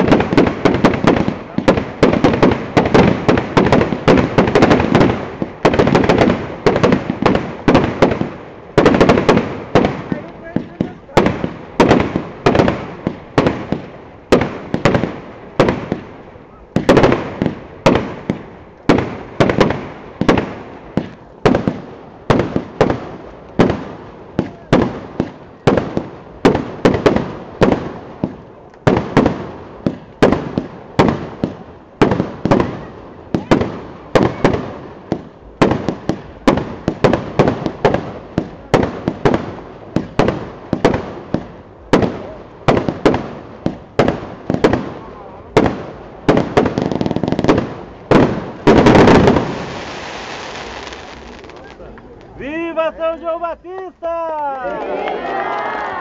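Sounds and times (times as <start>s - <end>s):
firework bangs: 0.0s - 54.4s.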